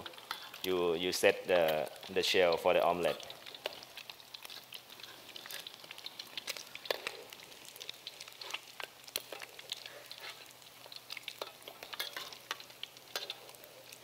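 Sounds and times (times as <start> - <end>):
oil sizzling with pops: 0.0 - 14.0.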